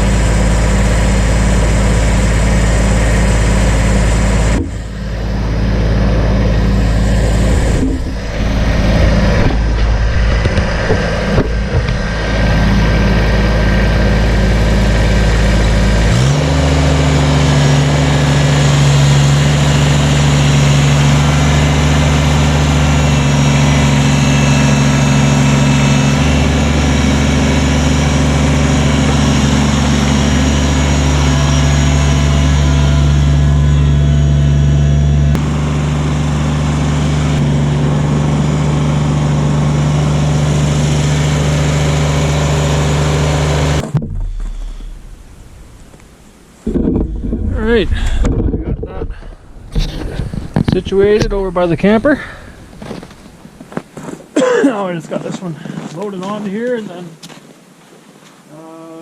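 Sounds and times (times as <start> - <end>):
engine running: 0.0 - 56.8.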